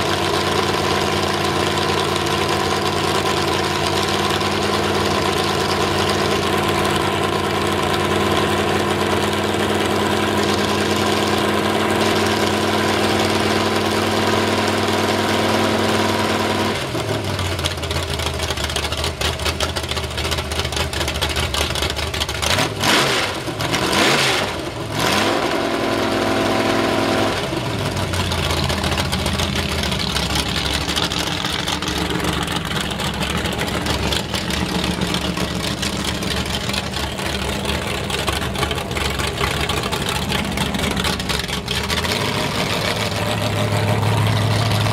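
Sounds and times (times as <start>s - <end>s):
truck engine idling and revving: 0.0s - 44.9s.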